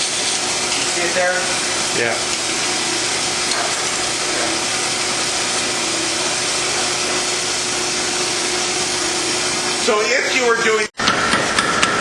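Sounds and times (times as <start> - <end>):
air blower roaring: 0.0 - 12.0.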